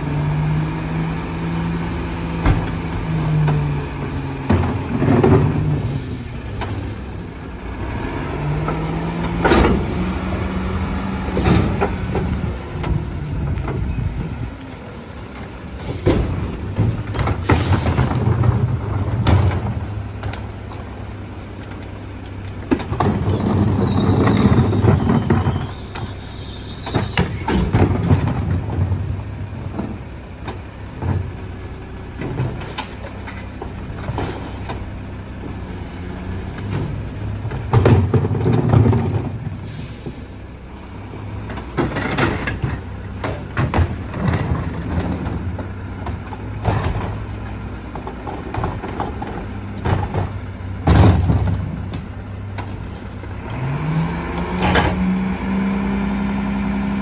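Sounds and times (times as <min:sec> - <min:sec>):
garbage truck diesel engine revving: 0:00.0 - 0:22.0, 0:22.7 - 0:57.0.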